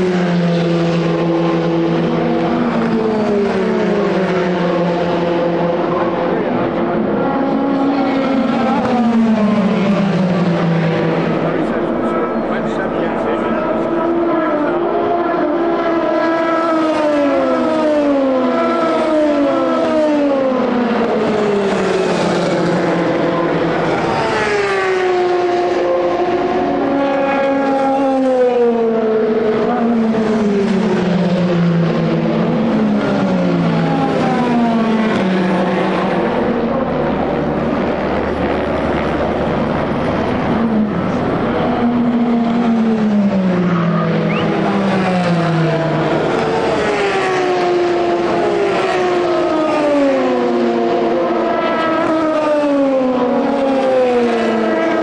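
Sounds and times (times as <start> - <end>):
racing car engines downshifting: 0.0 - 55.0.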